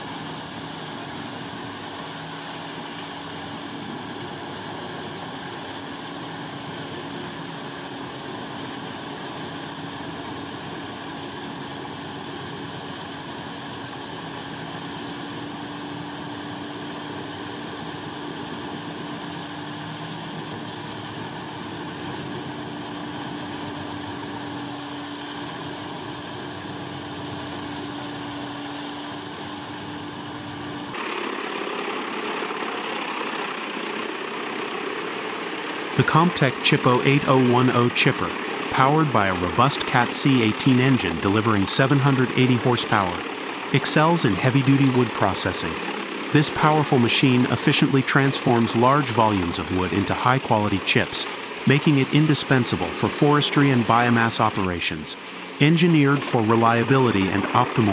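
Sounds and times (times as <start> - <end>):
chipper shredding logs: 0.0 - 57.9
wood chipper running: 0.0 - 57.9.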